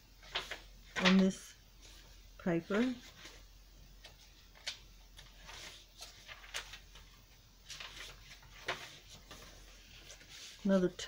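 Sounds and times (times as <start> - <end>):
paper pages turning: 0.2 - 3.4, 4.0 - 11.0.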